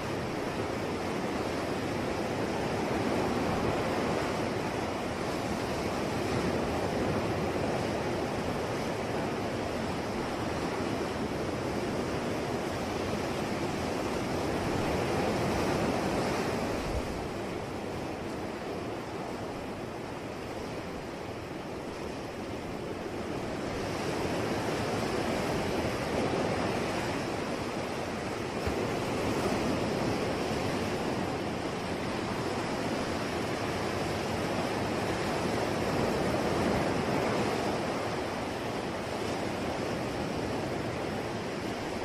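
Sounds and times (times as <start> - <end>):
sea waves washing ashore: 0.0 - 42.0.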